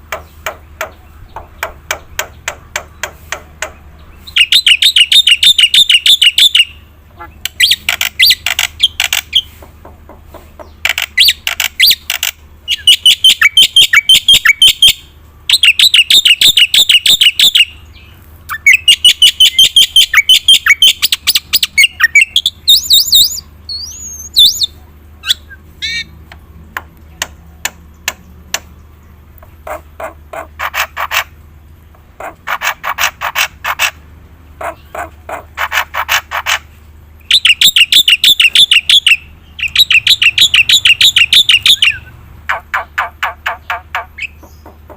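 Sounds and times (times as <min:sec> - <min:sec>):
bird harsh chattering song: 0:00.0 - 0:26.2, 0:29.4 - 0:34.0, 0:34.6 - 0:44.9
sharp bird clicks: 0:00.1 - 0:06.7, 0:07.4 - 0:14.8, 0:18.5 - 0:31.3, 0:32.2 - 0:34.0, 0:34.6 - 0:44.9.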